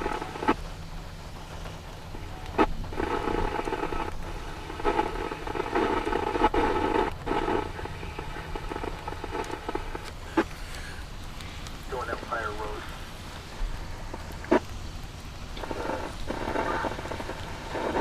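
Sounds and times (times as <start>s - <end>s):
radio squelch click: 0.0s - 0.7s, 1.4s - 14.8s, 15.5s - 18.0s
crackly radio static: 0.0s - 18.0s.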